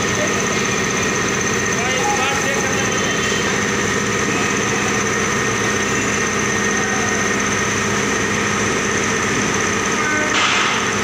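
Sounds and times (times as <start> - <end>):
factory machinery drone: 0.0 - 11.0.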